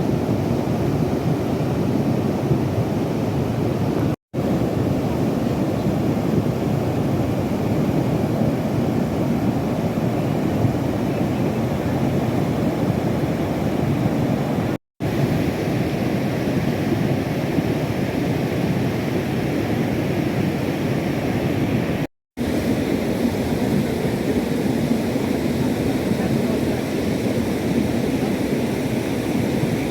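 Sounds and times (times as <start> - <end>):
rushing stream: 0.0 - 29.9.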